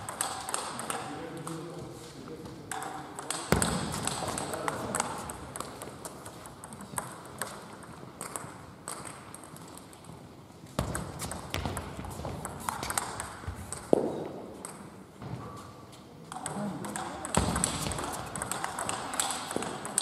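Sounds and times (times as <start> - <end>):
ping-pong ball hitting bats and table: 0.0 - 20.0.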